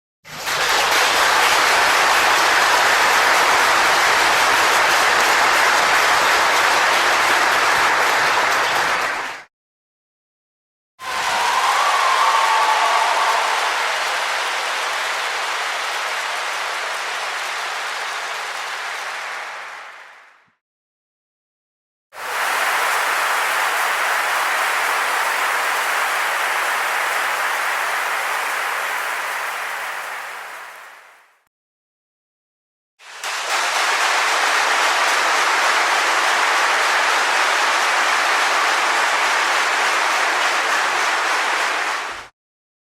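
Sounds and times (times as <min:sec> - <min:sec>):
large audience applauding: 0:00.3 - 0:09.5, 0:11.0 - 0:20.4, 0:22.2 - 0:31.2, 0:33.0 - 0:42.3.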